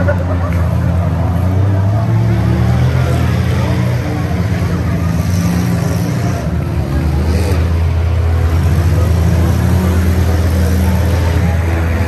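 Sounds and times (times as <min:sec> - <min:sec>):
car engines droning: 0:00.0 - 0:12.0.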